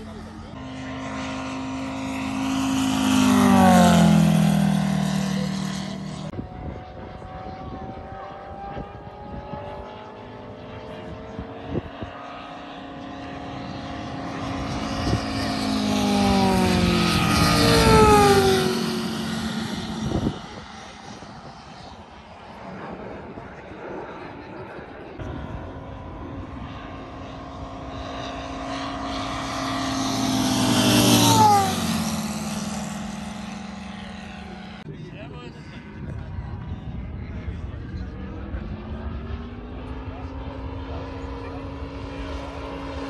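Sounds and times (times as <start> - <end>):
model aircraft engine passing: 0.0 - 43.0.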